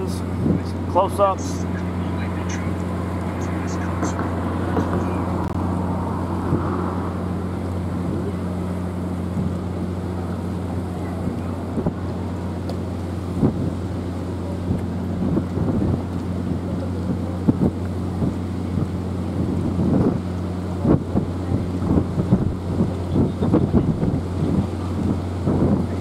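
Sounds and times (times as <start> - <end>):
steady low hum: 0.0 - 26.0
wind buffeting microphone: 0.0 - 26.0.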